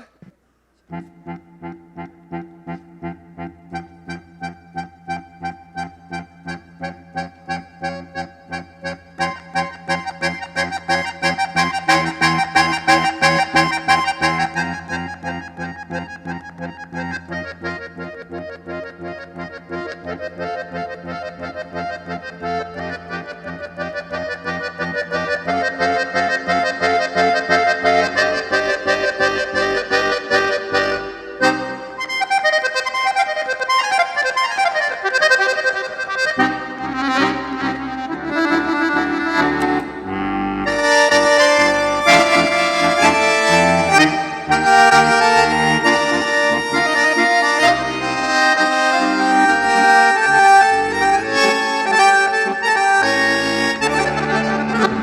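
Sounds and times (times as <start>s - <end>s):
accordion playing: 0.0s - 55.0s.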